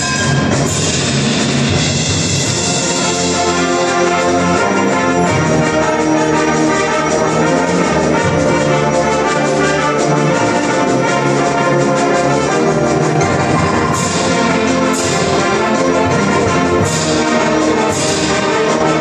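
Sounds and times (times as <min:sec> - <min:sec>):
concert band playing: 0:00.0 - 0:19.0
brass playing: 0:02.3 - 0:19.0.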